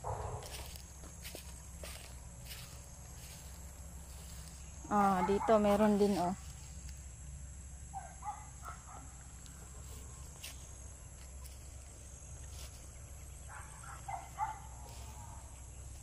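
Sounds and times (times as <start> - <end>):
distant bird calls: 0.0 - 16.0
high insect buzz: 0.0 - 16.0.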